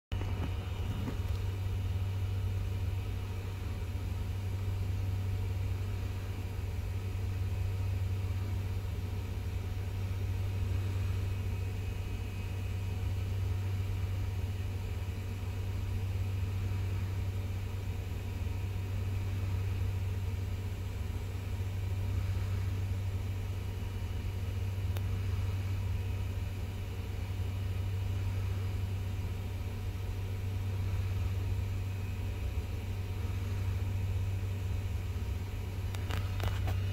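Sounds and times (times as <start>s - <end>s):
low machinery rumble and hum: 0.0s - 36.9s.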